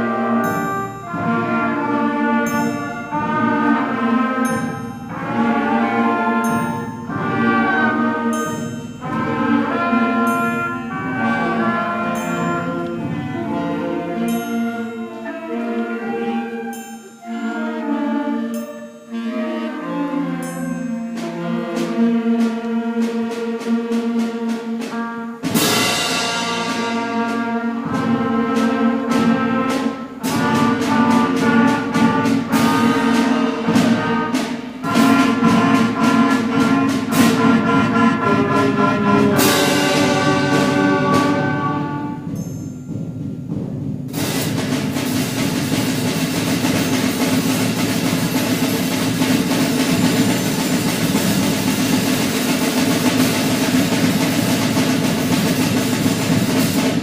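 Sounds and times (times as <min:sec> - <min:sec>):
concert band playing: 0:00.0 - 0:57.0
percussion rolls: 0:00.0 - 0:57.0.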